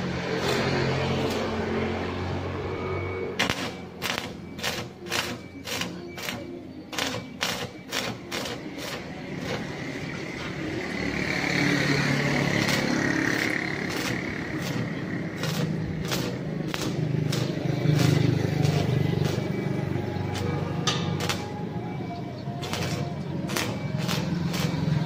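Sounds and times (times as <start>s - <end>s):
arc welding crackle and hiss: 0.0s - 2.1s, 3.4s - 21.6s, 22.6s - 25.0s.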